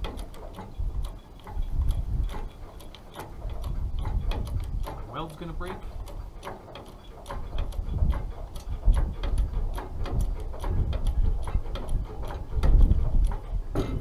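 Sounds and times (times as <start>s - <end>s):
rapid metallic clicking of crane: 0.0s - 14.0s.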